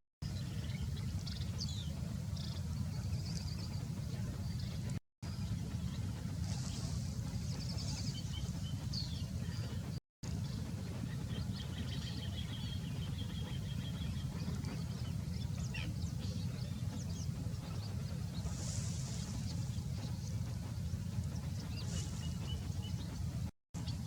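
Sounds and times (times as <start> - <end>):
low rumble: 0.2 - 24.0
small birds chirping: 0.3 - 24.0.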